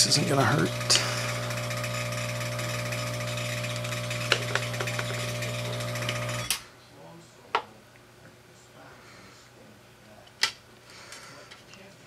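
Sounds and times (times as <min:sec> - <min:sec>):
electrical hum with fan hiss: 0:00.0 - 0:12.0.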